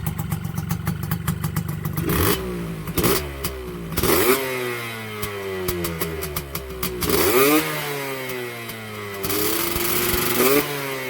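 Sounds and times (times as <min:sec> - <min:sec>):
two-stroke engine idling: 0:00.0 - 0:10.6.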